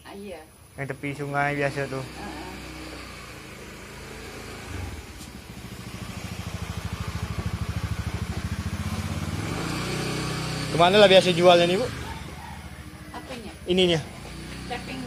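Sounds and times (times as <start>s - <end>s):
vehicle engine running: 0.6s - 15.0s.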